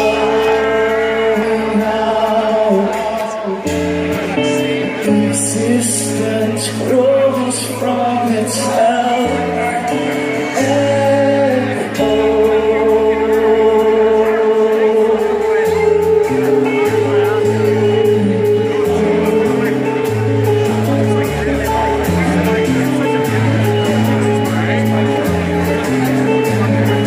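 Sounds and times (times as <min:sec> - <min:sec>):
metal band playing live: 0:00.0 - 0:27.0
person singing: 0:00.0 - 0:27.0.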